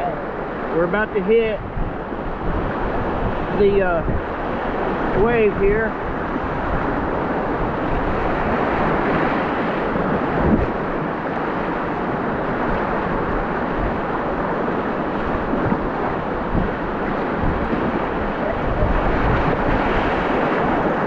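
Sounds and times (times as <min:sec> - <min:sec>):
water washing around kayak: 0:00.0 - 0:21.0
wind buffeting microphone: 0:00.0 - 0:21.0.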